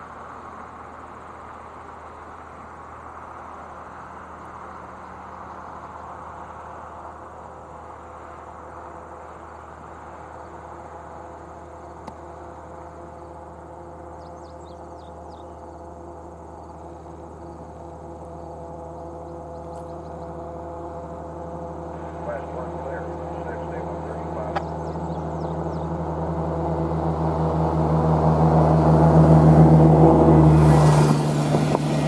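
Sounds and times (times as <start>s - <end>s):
insects droning: 0.0s - 32.0s
deep hum: 3.1s - 32.0s.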